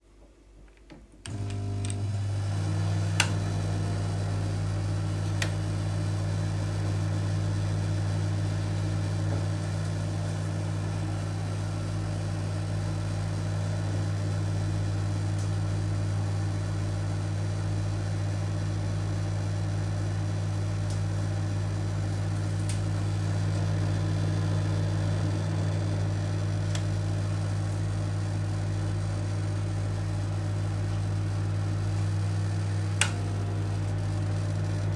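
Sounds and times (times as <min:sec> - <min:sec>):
microwave oven humming: 0:01.2 - 0:34.9.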